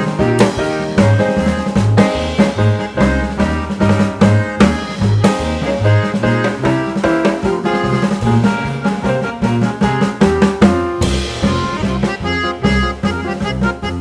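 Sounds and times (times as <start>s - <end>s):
upbeat jazzy music: 0.0s - 14.0s.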